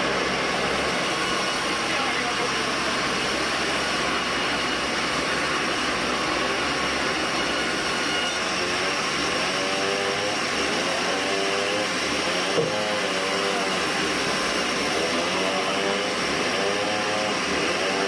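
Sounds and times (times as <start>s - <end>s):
band saw whirring: 0.0s - 18.0s.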